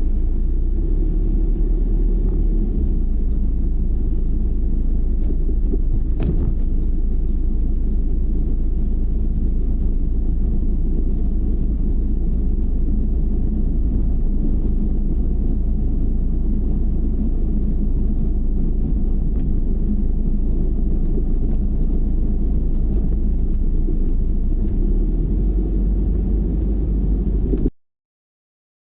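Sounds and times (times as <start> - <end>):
car road and engine rumble: 0.0 - 27.7.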